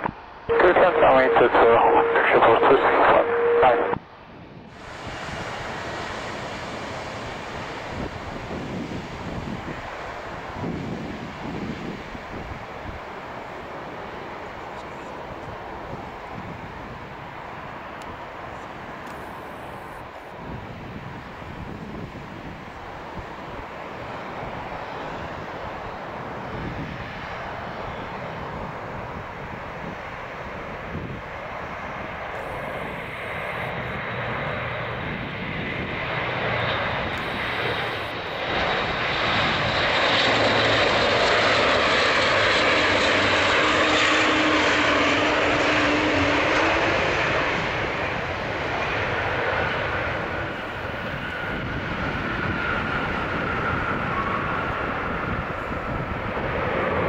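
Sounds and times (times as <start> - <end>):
turboprop aircraft passing: 0.0 - 57.0.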